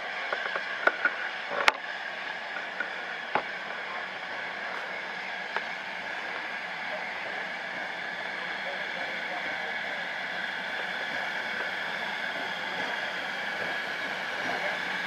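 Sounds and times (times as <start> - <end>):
steam locomotive hissing: 1.3 - 15.0.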